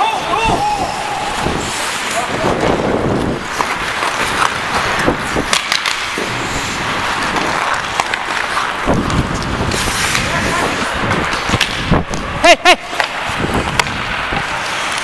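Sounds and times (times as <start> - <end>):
skate blades scraping ice: 0.0 - 15.0
hockey sticks knocking: 1.3 - 15.0.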